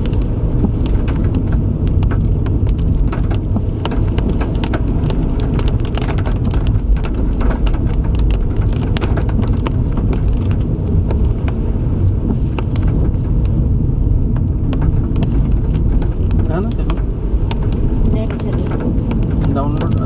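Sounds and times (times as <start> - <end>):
raindrops ticking on windshield: 0.0 - 20.0
road and tyre rumble: 0.0 - 20.0.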